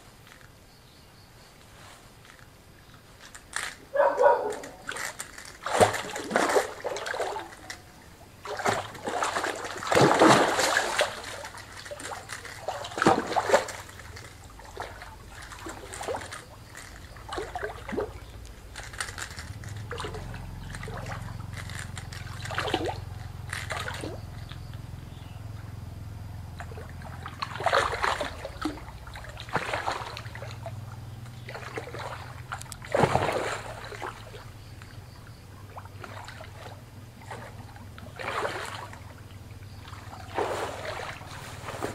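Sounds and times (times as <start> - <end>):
low steady hum: 0.0 - 41.9
person wading in water: 4.0 - 24.7, 26.5 - 41.9
fish splashing in water: 4.0 - 25.0, 26.0 - 41.9.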